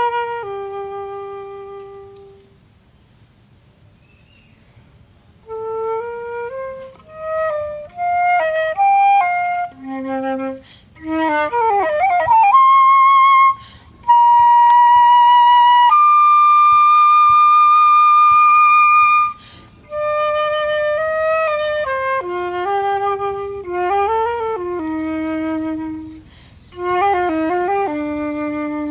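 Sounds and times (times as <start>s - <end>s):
solo flute melody: 0.0s - 2.6s, 5.4s - 28.9s.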